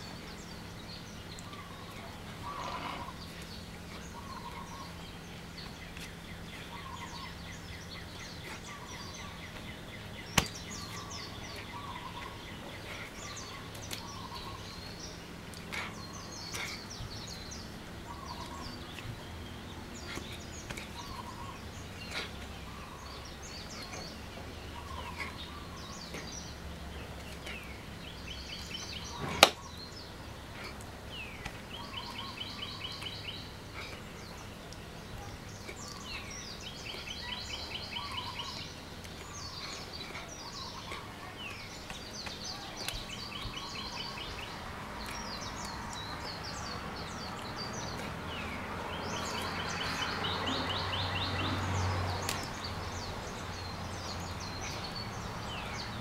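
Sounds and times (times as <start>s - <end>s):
birds trilling: 0.0s - 56.0s
outdoor background noise: 0.0s - 56.0s.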